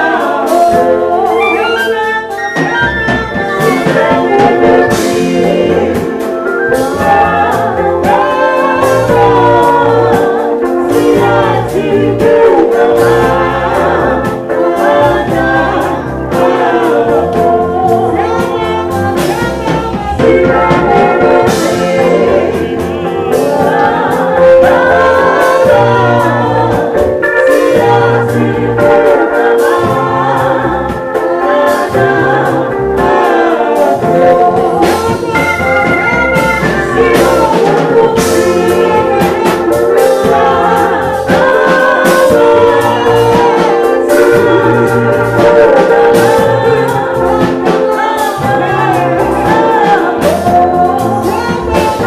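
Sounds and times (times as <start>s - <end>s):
drum kit: 0.0s - 52.0s
electric bass guitar: 0.0s - 52.0s
woman singing into microphone: 0.0s - 52.0s.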